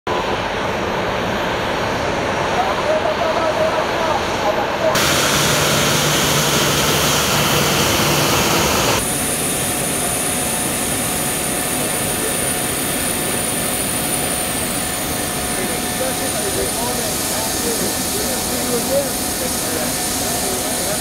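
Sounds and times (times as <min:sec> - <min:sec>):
jet aircraft noise: 0:00.1 - 0:21.0.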